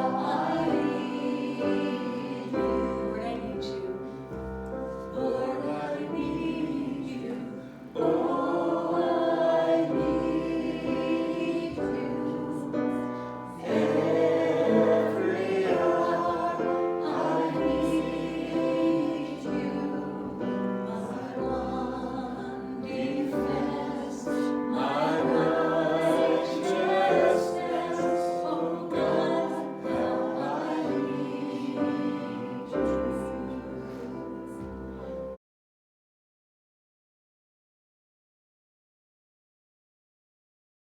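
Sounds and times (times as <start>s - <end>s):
group singing gospel song: 0.0s - 4.3s, 5.0s - 35.0s.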